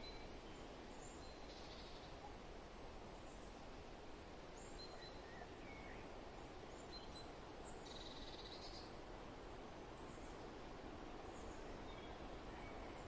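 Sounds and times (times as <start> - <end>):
soft wind blowing: 0.0 - 13.0.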